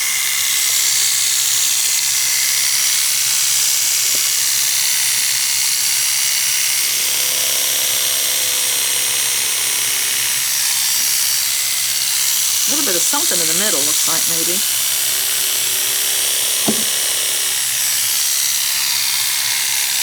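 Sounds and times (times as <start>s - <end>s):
electric clipper buzzing: 0.0s - 20.0s.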